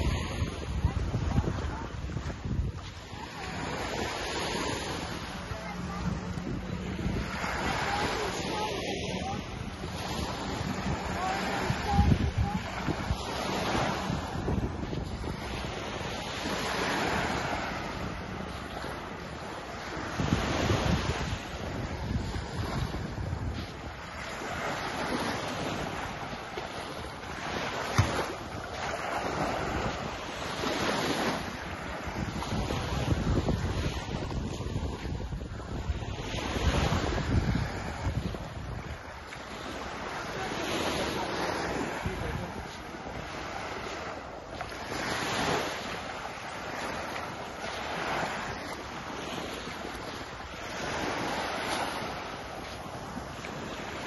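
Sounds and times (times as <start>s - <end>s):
small waves on sandy shore: 0.0s - 54.0s
wind rumbling on microphone: 0.0s - 54.0s.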